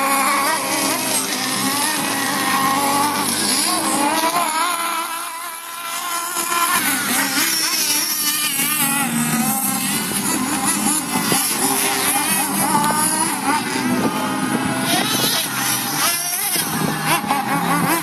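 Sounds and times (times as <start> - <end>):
remote control car motor: 0.0 - 18.0.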